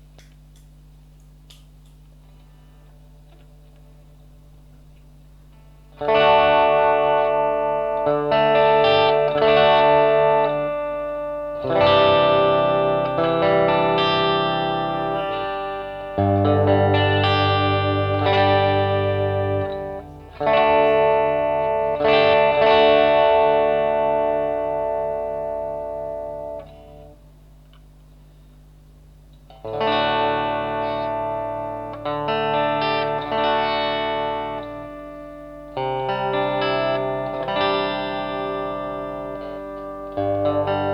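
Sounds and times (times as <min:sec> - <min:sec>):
distorted electric guitar chords: 0:05.3 - 0:27.3, 0:29.0 - 0:40.9.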